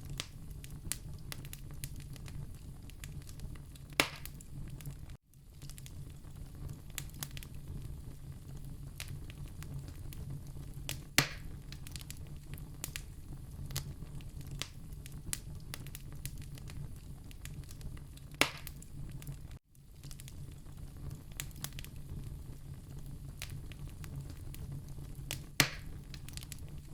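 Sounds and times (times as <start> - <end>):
fire crackling in fireplace: 0.0 - 26.9
fire pops: 0.0 - 26.9.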